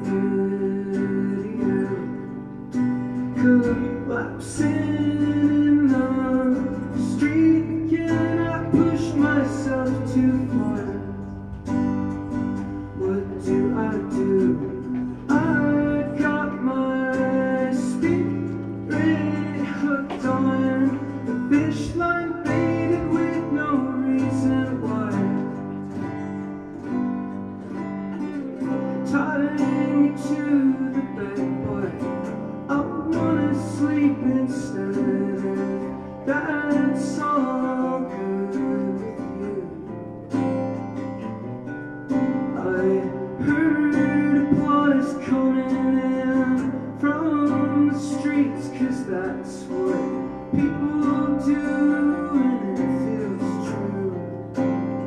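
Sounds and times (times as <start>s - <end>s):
person singing: 0.0s - 26.9s, 27.5s - 40.4s, 42.4s - 55.0s
acoustic guitar: 0.0s - 55.0s.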